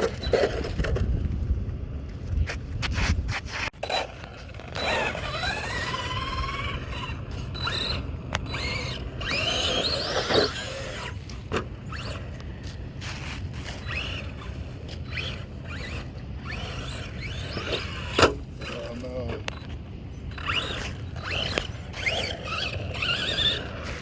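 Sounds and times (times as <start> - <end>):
electric motor whining: 3.8 - 24.0
toy truck clicking over dirt: 3.8 - 24.0.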